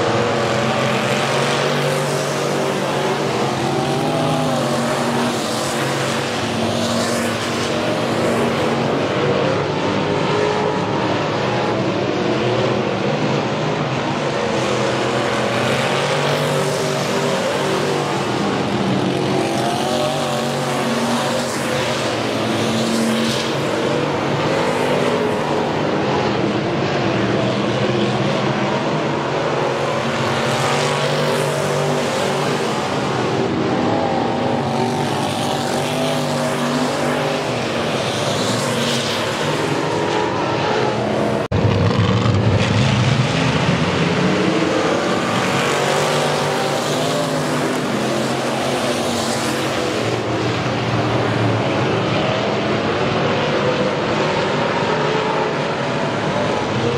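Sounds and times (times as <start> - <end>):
race car engines passing: 0.0 - 56.9.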